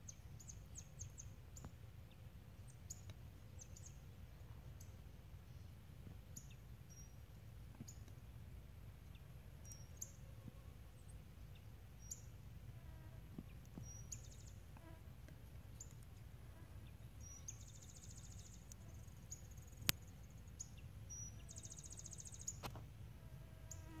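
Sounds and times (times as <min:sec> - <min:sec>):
small birds chirping: 0:00.0 - 0:08.4, 0:09.0 - 0:12.4, 0:13.3 - 0:22.8.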